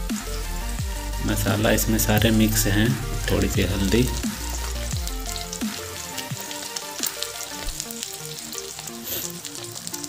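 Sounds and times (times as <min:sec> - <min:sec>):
food deep-frying in hot oil: 0:00.0 - 0:10.0.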